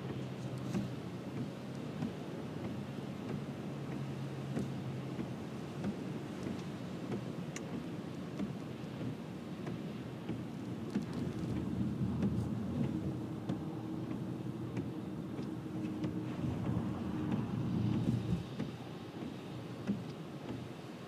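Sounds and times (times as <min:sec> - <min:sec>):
car road noise on wet road: 0:00.0 - 0:21.0.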